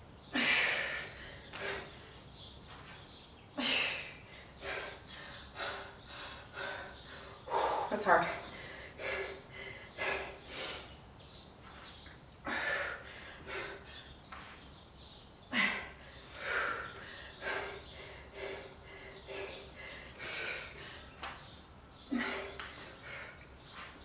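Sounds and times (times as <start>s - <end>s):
woman breathing hard: 0.3s - 2.4s, 3.6s - 11.0s, 11.7s - 14.6s, 15.4s - 24.0s.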